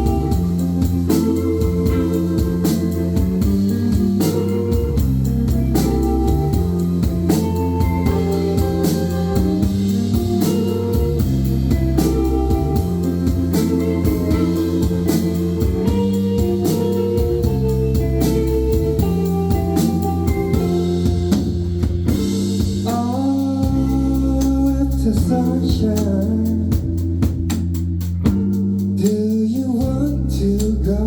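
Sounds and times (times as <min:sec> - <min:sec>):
bass guitar: 0:00.0 - 0:31.0
drum kit beat: 0:00.0 - 0:31.0
electric guitar: 0:00.0 - 0:31.0.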